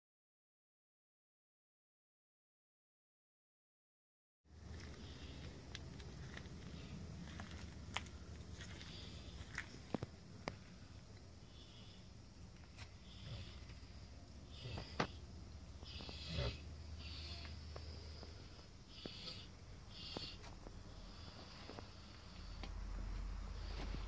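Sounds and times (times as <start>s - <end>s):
pigs snoring softly: 4.6s - 24.0s.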